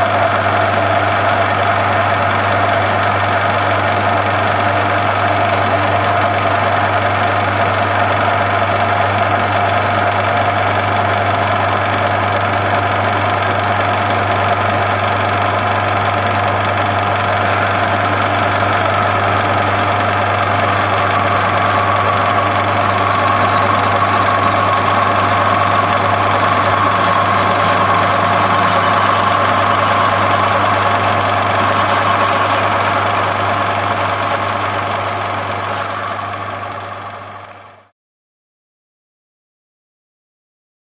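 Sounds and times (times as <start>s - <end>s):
lathe motor humming with whine: 0.0s - 37.8s.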